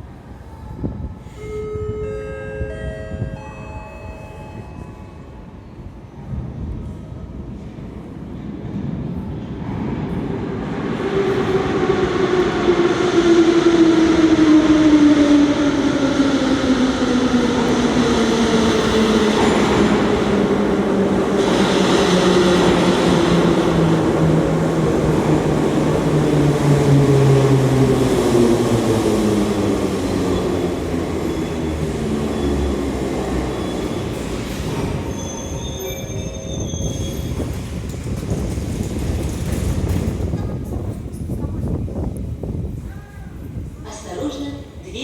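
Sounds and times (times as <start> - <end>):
train wheels rumbling: 5.8 - 44.1.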